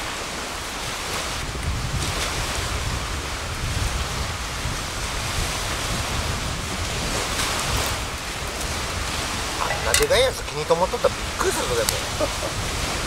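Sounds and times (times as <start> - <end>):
wind on microphone: 0.3 - 13.0
rumble of wind gusts: 1.4 - 13.0.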